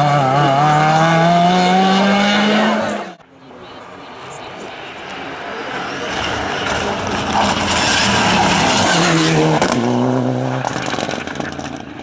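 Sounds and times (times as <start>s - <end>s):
rally car engine passing: 0.0s - 12.0s.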